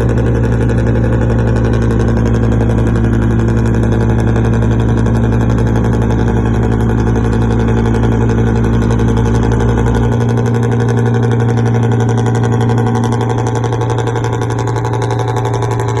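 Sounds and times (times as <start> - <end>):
large engine humming: 0.0 - 16.0
low rumble: 0.0 - 16.0.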